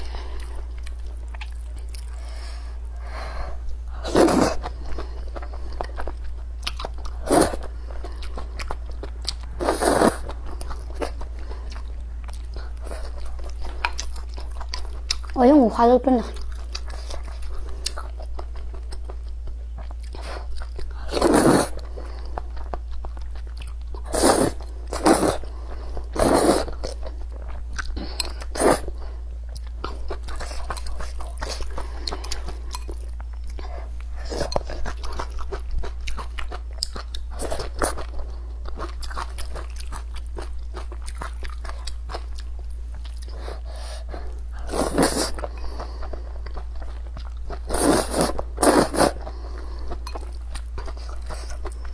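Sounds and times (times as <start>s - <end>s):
chewing food: 0.0s - 2.4s, 4.2s - 15.6s, 16.2s - 51.9s
steady low hum: 0.0s - 51.9s.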